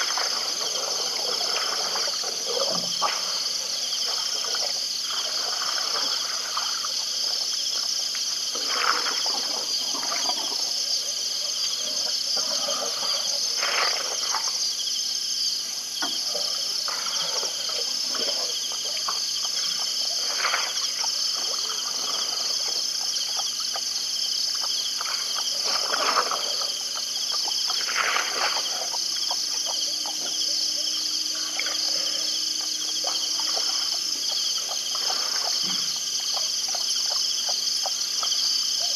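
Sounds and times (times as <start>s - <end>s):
frogs calling: 0.0s - 38.9s
insects trilling: 0.0s - 38.9s.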